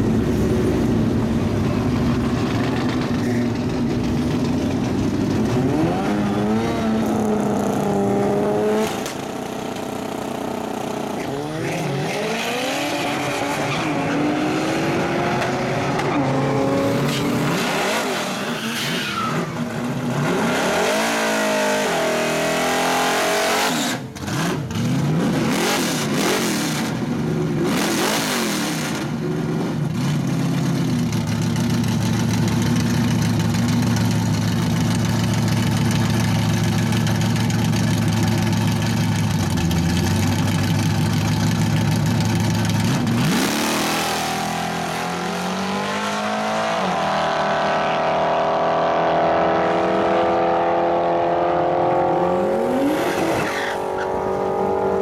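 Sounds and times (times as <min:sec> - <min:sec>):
drag car engines revving: 0:00.0 - 0:31.9, 0:32.6 - 0:55.0.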